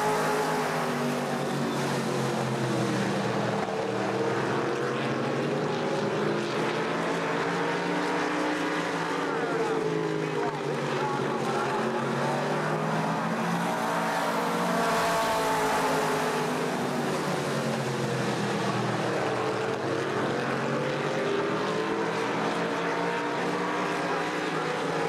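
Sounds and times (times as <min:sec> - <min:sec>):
race car engines passing: 0:00.0 - 0:25.0.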